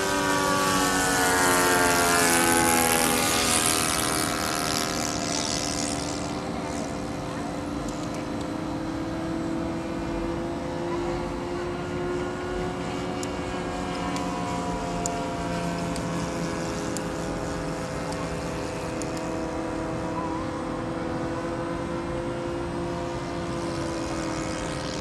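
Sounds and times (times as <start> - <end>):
model plane engine in flight: 0.0 - 25.0.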